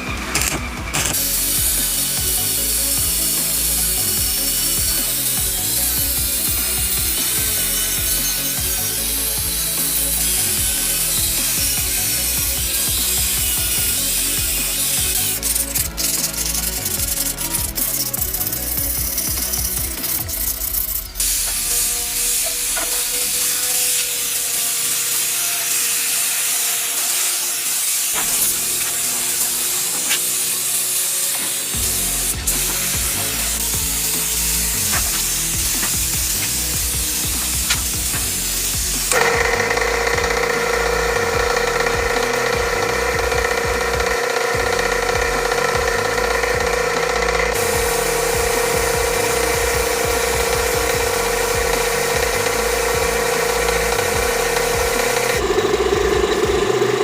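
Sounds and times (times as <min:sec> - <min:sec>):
steady spraying hiss: 0:01.2 - 0:55.8.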